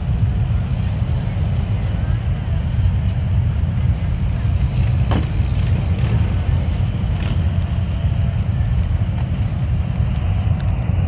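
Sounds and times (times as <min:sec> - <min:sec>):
motorcycles rumbling: 0:00.0 - 0:11.0.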